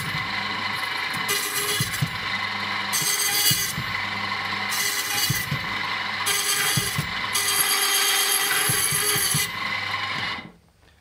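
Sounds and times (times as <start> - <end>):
key-cutting machine motor hum: 0.0 - 10.4
cutter grinding metal: 0.0 - 10.5.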